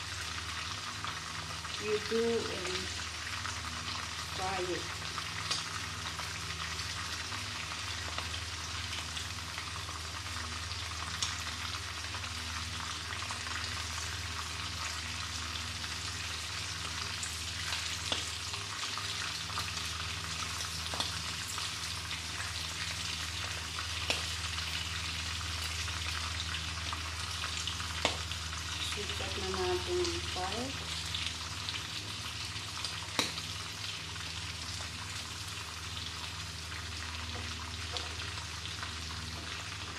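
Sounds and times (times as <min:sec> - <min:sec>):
shrimp sizzling in hot oil: 0:00.0 - 0:39.9.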